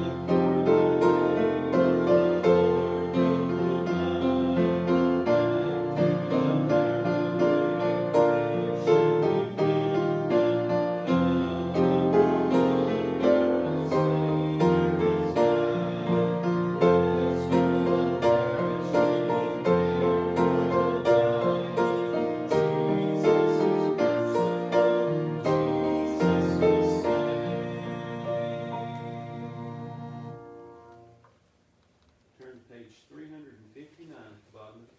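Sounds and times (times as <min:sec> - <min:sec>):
piano playing hymn chords: 0:00.0 - 0:31.2.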